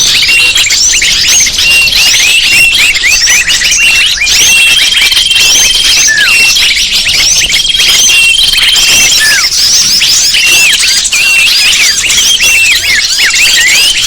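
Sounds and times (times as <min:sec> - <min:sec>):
small birds chirping and twittering: 0:00.0 - 0:14.0.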